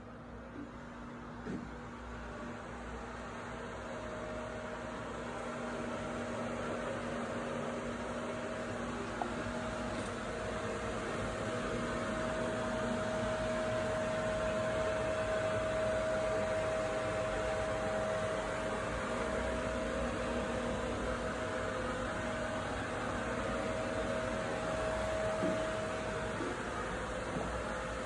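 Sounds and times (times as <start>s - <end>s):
ventilation fan running: 0.0s - 28.0s.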